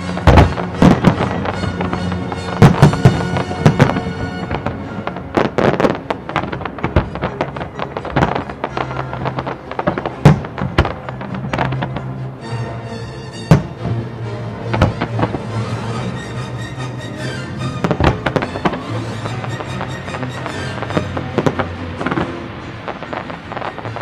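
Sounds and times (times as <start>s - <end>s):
fireworks bangs: 0.0s - 24.0s
music soundtrack: 0.0s - 24.0s.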